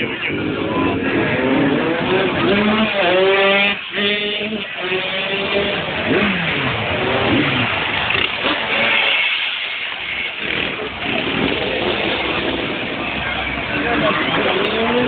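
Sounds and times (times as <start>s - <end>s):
motorcycle engines revving past: 0.0s - 15.0s
noisy background: 0.0s - 15.0s.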